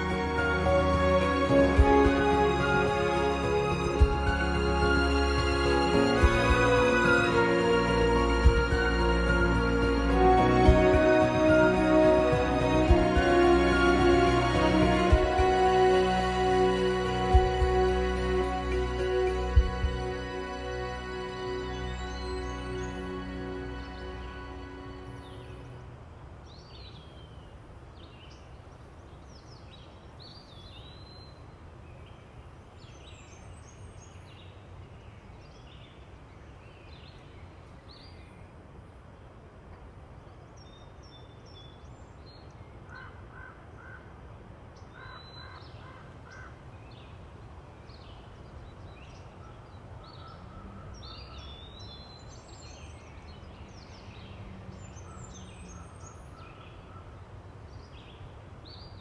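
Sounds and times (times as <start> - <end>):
wild birds chirping: 0.0 - 38.7, 40.0 - 59.0.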